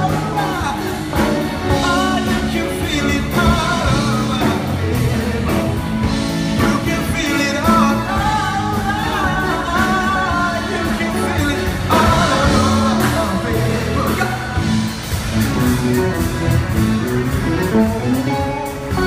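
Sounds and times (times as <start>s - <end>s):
person singing lead vocal: 0.0s - 16.8s
live rock band playing: 0.0s - 19.0s.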